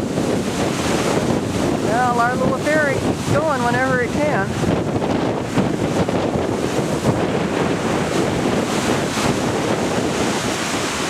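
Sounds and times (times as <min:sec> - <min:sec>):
rough waves: 0:00.0 - 0:11.0
wind buffeting microphone: 0:00.0 - 0:11.0.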